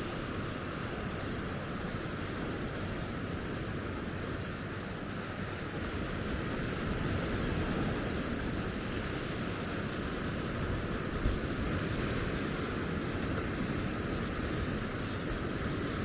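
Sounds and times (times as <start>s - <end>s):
waves washing onto beach: 0.0s - 16.0s.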